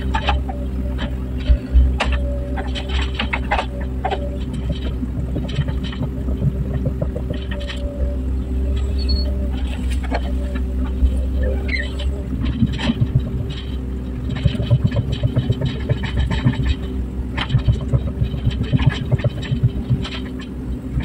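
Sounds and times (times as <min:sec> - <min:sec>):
excavator diesel engine running: 0:00.0 - 0:21.0
metallic clanks and knocks: 0:00.0 - 0:21.0.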